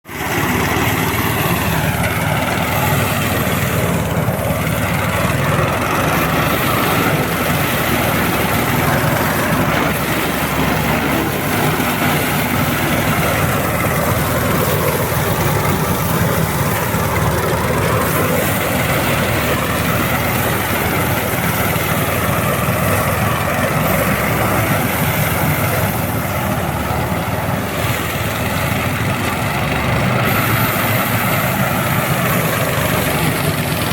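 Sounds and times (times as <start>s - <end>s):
harvester engine running loud: 0.0s - 33.9s.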